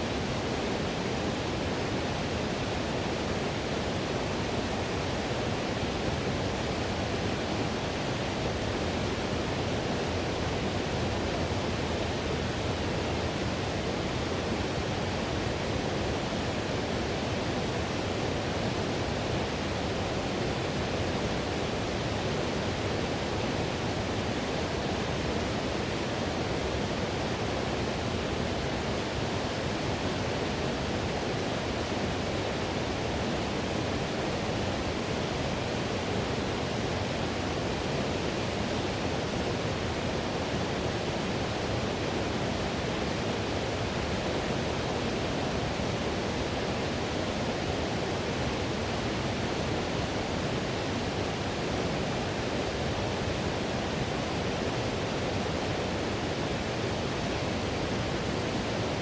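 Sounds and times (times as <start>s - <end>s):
river water roaring: 0.1s - 59.0s.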